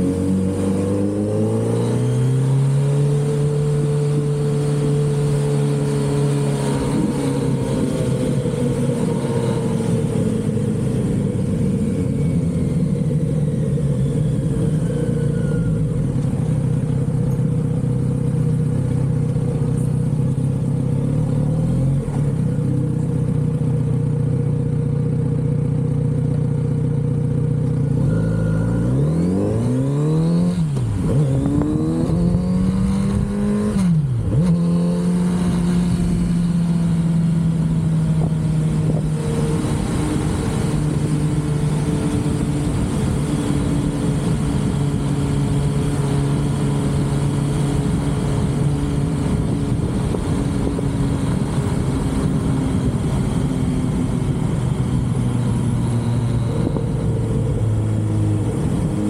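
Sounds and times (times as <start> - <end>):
motorcycle engine revving: 0.0 - 26.5, 27.1 - 59.0.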